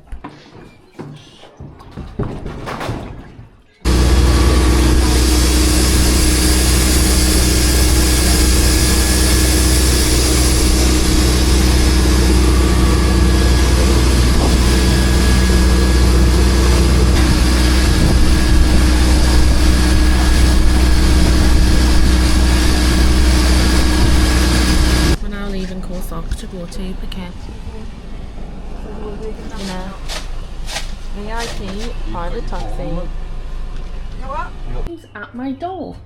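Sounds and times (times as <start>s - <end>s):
engine running with deep hum: 3.8s - 34.9s.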